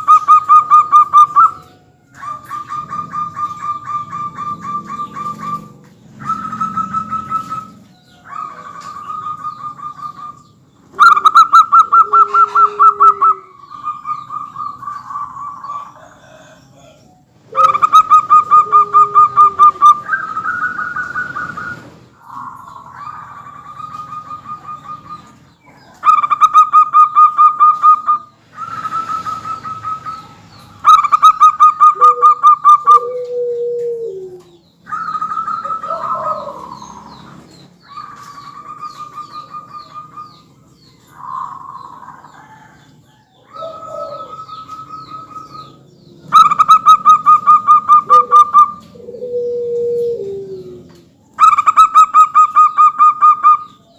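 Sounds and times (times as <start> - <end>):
doves cooing trills: 0.0 - 53.9.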